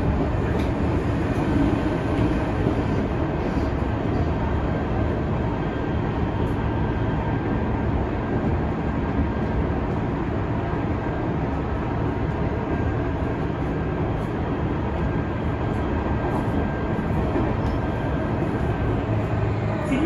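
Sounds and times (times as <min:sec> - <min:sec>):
train wheel-on-rail rumble: 0:00.0 - 0:20.0.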